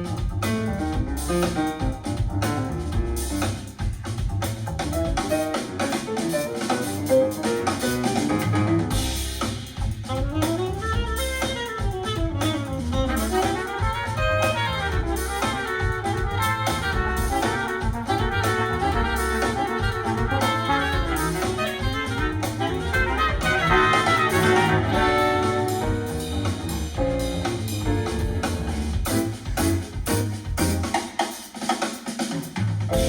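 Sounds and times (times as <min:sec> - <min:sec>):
jazz music through speakers: 0:00.0 - 0:33.0.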